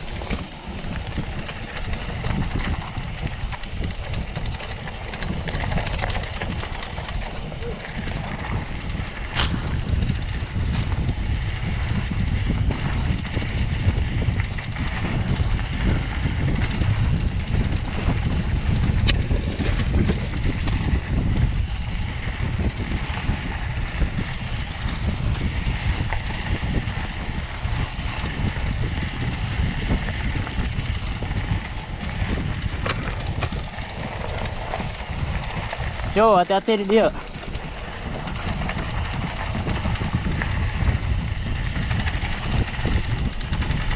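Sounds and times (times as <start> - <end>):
bike knocking: 0.0 - 23.6, 24.2 - 43.9
tyres rolling over dirt: 0.0 - 43.9
wind buffeting microphone: 0.0 - 43.9.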